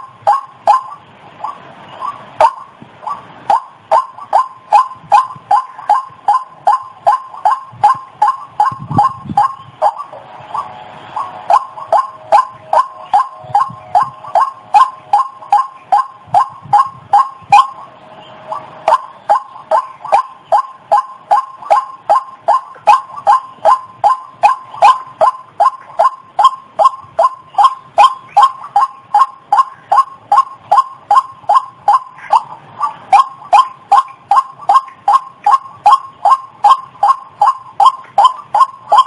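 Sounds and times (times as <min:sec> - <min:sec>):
bird call repeated short notes: 0:00.0 - 0:39.0.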